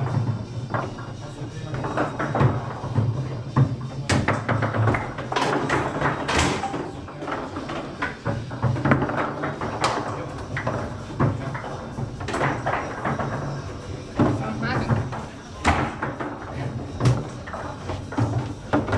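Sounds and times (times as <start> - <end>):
foosball ball knocking: 0.0 - 18.9
foosball rods sliding and clacking: 0.0 - 18.9.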